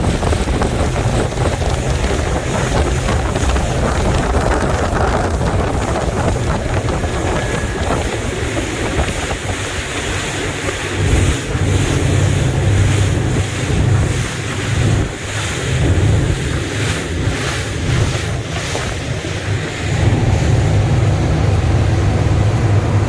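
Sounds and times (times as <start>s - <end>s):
motorboat engine rumble: 0.0s - 23.0s
rushing water: 0.0s - 23.0s
wind buffeting microphone: 0.0s - 23.0s.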